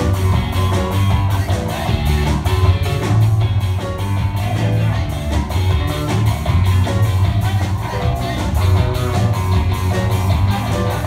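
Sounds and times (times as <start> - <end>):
live rock band playing: 0.0 - 11.0
strong bass line: 0.0 - 11.0.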